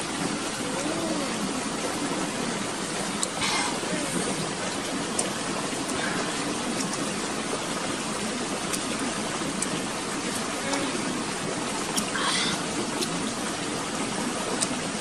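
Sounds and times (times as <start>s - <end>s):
flowing stream water: 0.0s - 15.0s.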